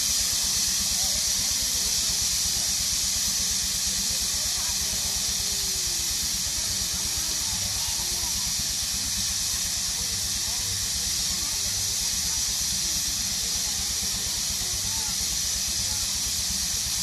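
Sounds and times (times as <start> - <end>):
steam engine hissing: 0.0 - 17.0.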